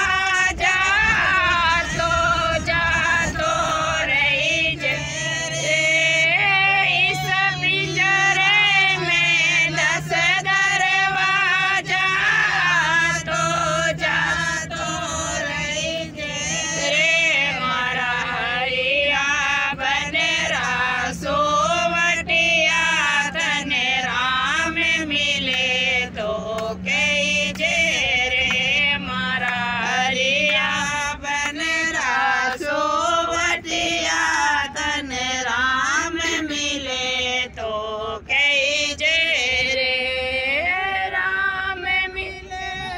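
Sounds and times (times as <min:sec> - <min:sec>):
group singing along: 0:00.0 - 0:42.9
steady low hum: 0:00.0 - 0:42.9
woman singing: 0:00.0 - 0:42.9.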